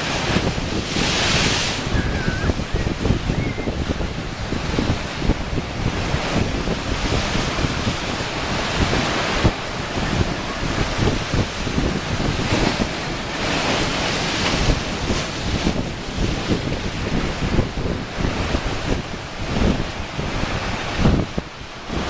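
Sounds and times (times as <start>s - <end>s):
waves washing against rocks: 0.0s - 22.0s
wind buffeting microphone: 0.0s - 22.0s.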